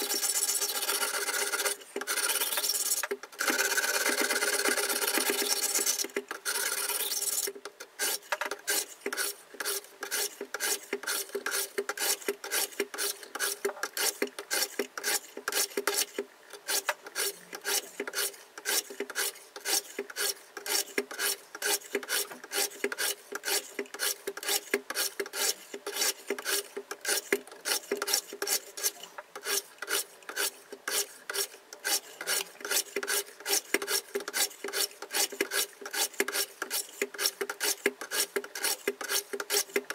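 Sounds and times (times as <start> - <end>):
sharpener rasping on knife edge: 6.9 - 16.1, 16.7 - 39.7.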